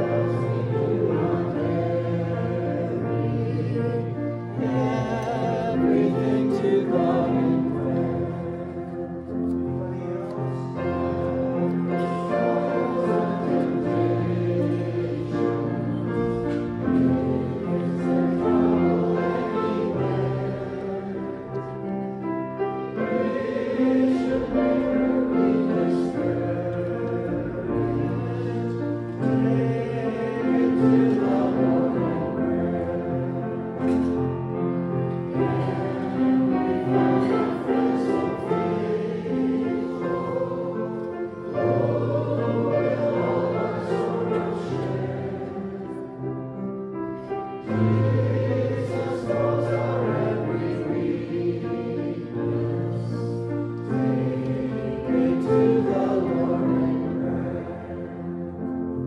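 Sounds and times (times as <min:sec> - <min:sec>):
choir singing held notes: 0:00.0 - 0:59.0.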